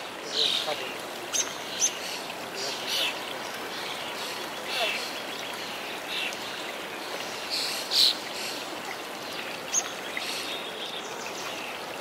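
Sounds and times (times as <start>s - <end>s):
water trickling over rock: 0.0s - 12.0s.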